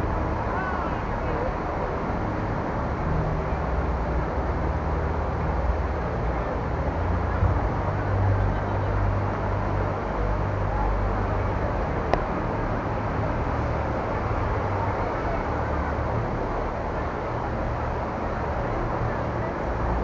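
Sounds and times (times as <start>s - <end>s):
crowd talking: 0.0s - 20.0s
road traffic engine drone: 0.0s - 20.0s.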